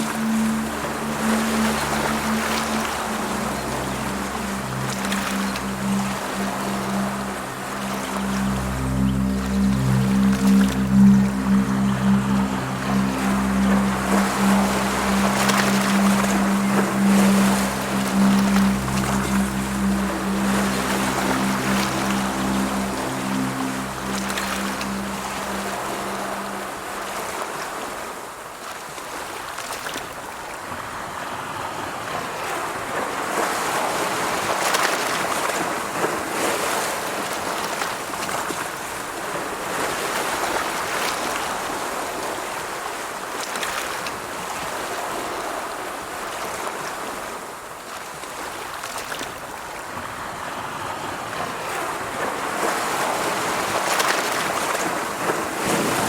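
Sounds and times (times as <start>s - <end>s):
waves breaking and washing in: 0.0s - 56.0s.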